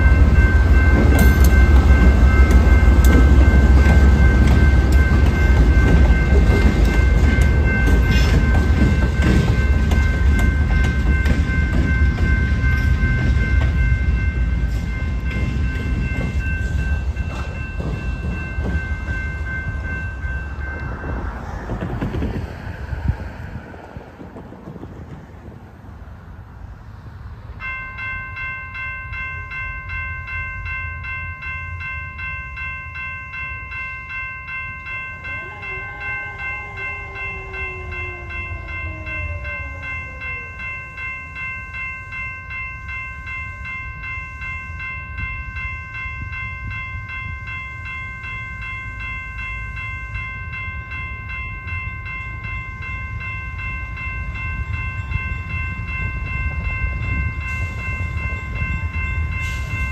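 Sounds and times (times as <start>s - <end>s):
crossing warning bell ringing: 0.0s - 25.5s, 26.1s - 59.9s
diesel freight train rumble: 0.0s - 33.4s, 34.1s - 59.9s.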